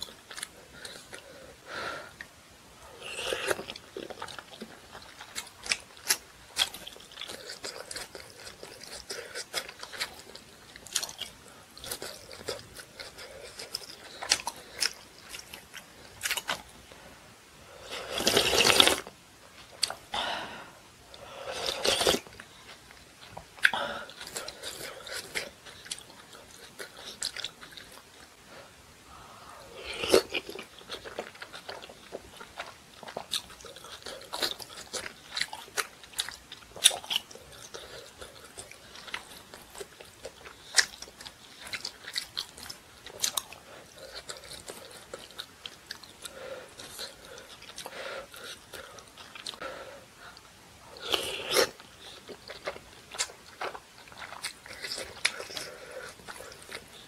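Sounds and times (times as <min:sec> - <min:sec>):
person chewing with wet smacking: 0:00.0 - 0:01.2, 0:03.2 - 0:16.8, 0:21.6 - 0:28.4, 0:29.9 - 0:49.6, 0:50.3 - 0:57.0.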